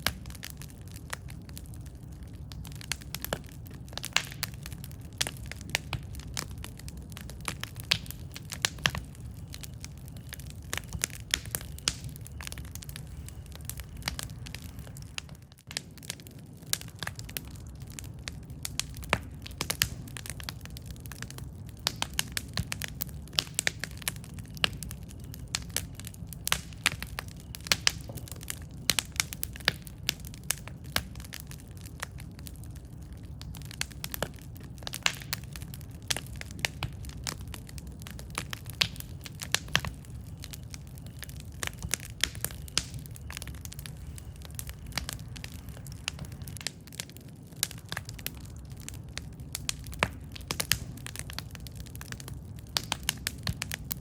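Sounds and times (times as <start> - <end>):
burning wood crackles and pops: 0.0 - 54.0
flames rumbling: 0.0 - 54.0.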